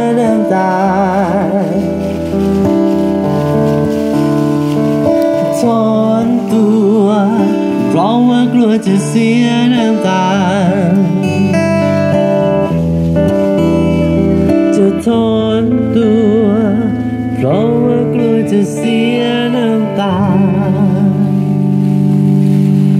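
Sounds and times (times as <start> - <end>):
acoustic guitar playing: 0.0 - 22.9.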